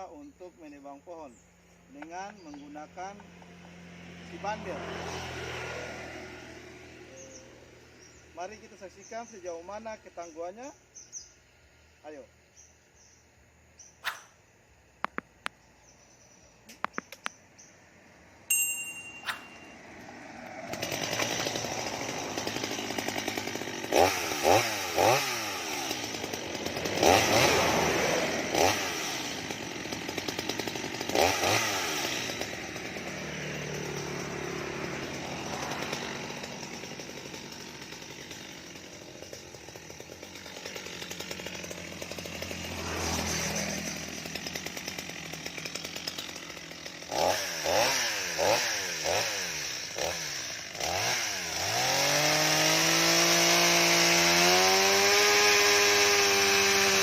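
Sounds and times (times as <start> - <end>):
chainsaw cutting wood: 1.9 - 7.3, 13.8 - 15.7, 16.7 - 17.7, 18.3 - 57.0
chainsaw engine revving: 1.9 - 10.3, 14.0 - 15.6, 18.3 - 57.0.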